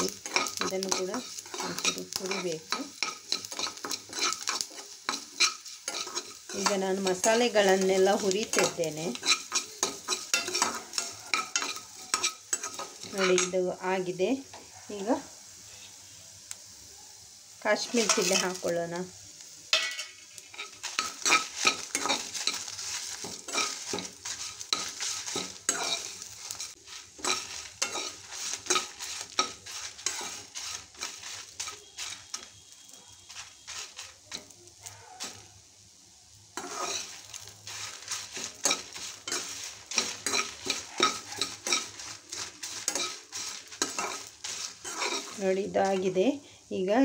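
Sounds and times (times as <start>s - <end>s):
metal spatula scraping a pan: 0.0s - 15.9s, 17.8s - 19.0s, 19.7s - 35.5s, 36.5s - 46.2s
spices sizzling in oil: 0.0s - 47.0s.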